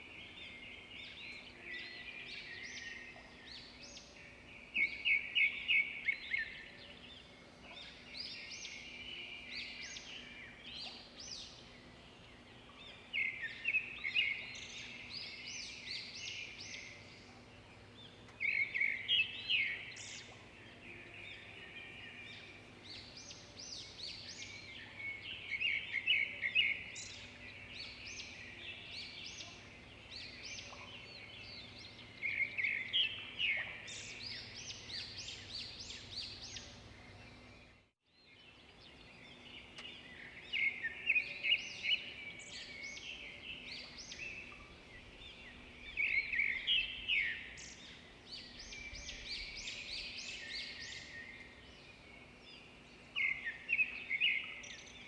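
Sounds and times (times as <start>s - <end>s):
birds singing trills and chirps: 0.0s - 55.0s.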